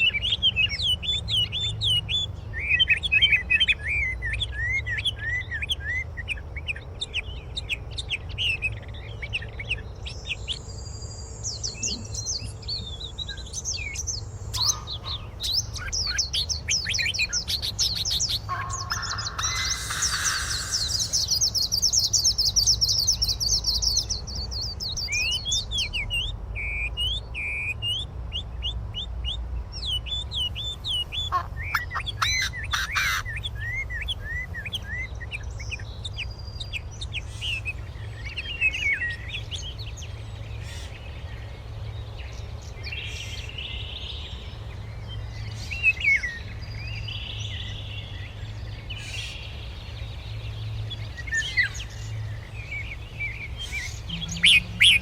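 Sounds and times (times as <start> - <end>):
songbirds trilling and chirping: 0.0 - 55.0.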